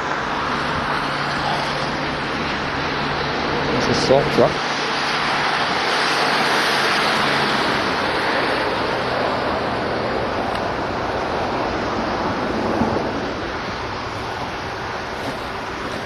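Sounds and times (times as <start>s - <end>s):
tyres on wet slushy road: 0.0s - 16.0s.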